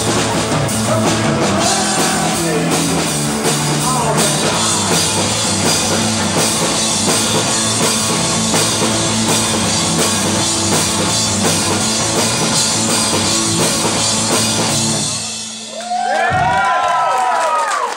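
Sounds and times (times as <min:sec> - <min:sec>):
rock band playing live: 0:00.0 - 0:16.6
drum kit pounding: 0:00.0 - 0:16.8.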